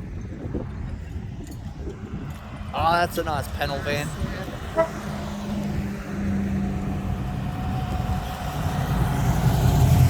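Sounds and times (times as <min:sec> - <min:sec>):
car engines running: 0:00.0 - 0:10.0
deep engine rumble: 0:00.0 - 0:10.0.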